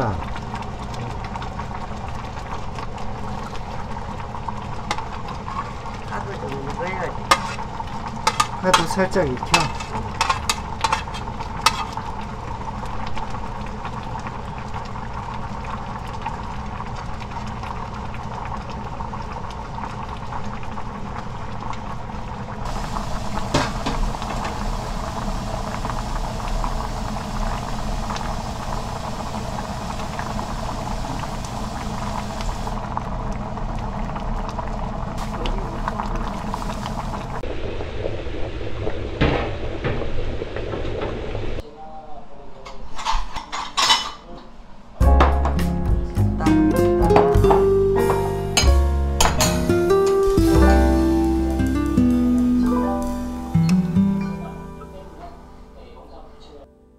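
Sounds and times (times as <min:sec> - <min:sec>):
sauce boiling in a pot: 0:00.0 - 0:41.3, 0:49.8 - 0:54.2.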